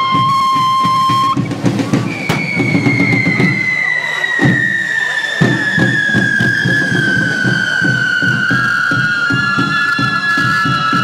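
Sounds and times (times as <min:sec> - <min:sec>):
drumming: 0:00.0 - 0:11.0
firework whistles: 0:00.0 - 0:11.0.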